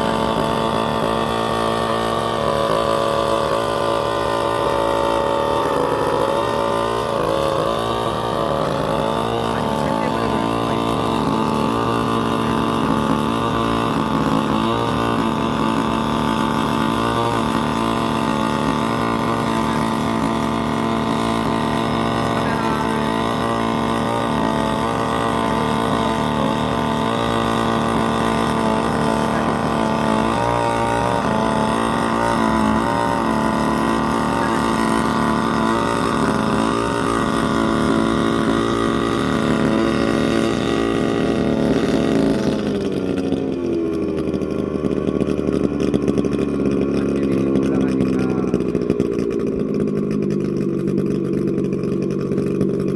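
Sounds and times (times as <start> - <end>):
drone engine and rotors: 0.0 - 52.9.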